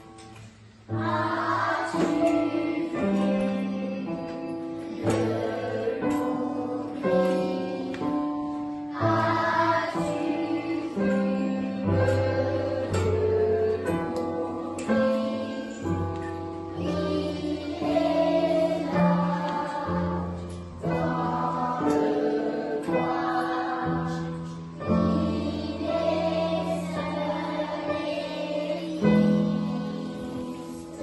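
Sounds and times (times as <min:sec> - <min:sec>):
children's choir singing: 0:00.0 - 0:31.0
upright piano: 0:00.0 - 0:31.0.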